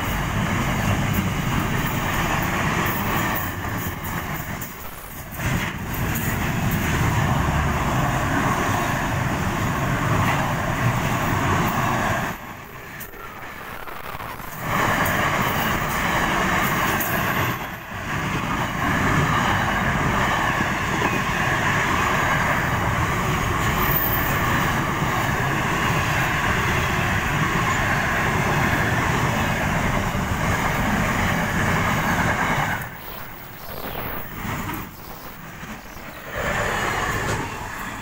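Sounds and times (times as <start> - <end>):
freight train wheel-on-rail noise: 0.0 - 38.0.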